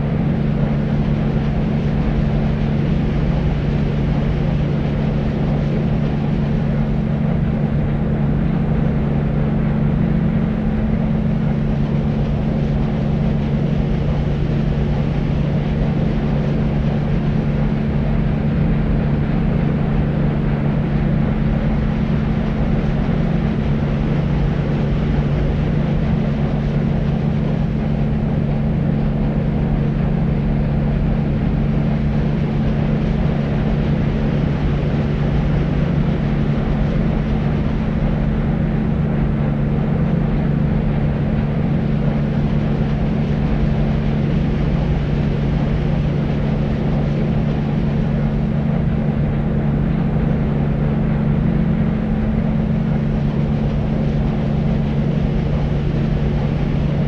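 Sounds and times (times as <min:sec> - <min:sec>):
low hum: 0:00.0 - 0:57.0.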